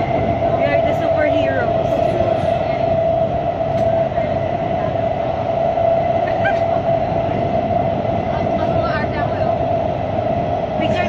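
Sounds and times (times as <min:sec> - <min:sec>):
train carriage running rumble: 0:00.0 - 0:11.0.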